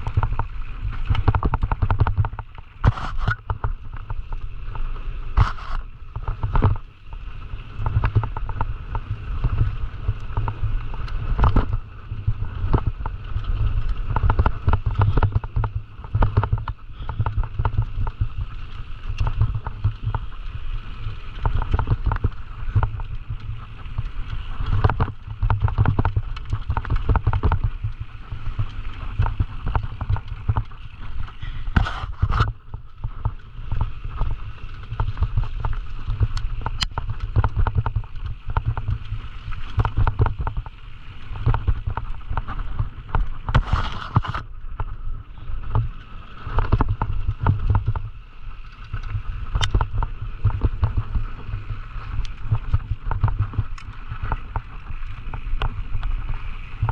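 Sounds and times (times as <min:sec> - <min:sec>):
bike rattling over bumps: 0:00.0 - 0:56.9.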